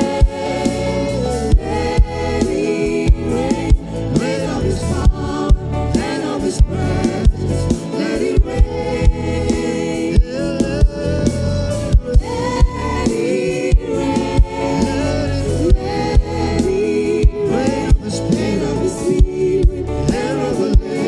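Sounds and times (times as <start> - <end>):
band playing steady beat: 0.0 - 21.0
gospel singers and choir: 0.0 - 21.0.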